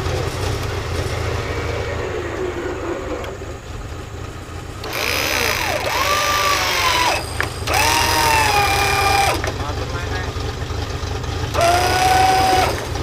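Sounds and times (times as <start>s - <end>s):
whining tone swooping: 0.0s - 9.5s, 11.5s - 13.0s
car engine idling: 0.0s - 13.0s.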